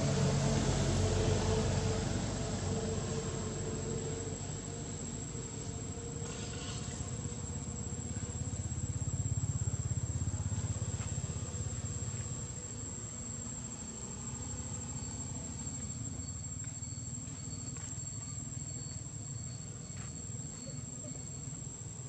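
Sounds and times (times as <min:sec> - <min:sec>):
low engine hum: 0:00.0 - 0:22.0
high-pitched insect drone: 0:01.0 - 0:22.0.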